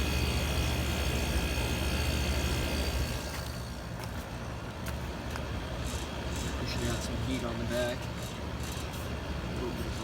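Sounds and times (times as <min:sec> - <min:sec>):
air conditioner compressor hum: 0:00.0 - 0:10.0
fan air rushing: 0:00.0 - 0:10.0.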